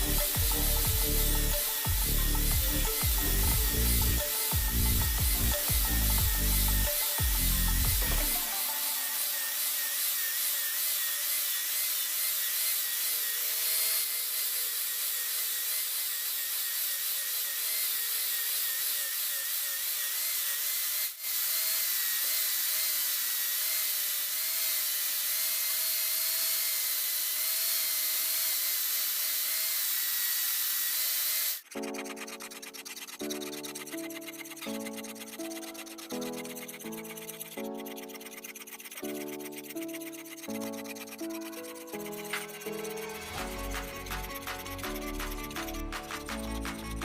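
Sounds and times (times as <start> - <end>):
power grinder on steel: 0.0 - 47.0.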